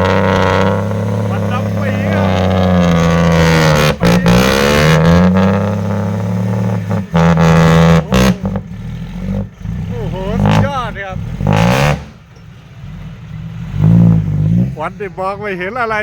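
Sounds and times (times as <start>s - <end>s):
heavy truck engine revving: 0.0s - 16.0s.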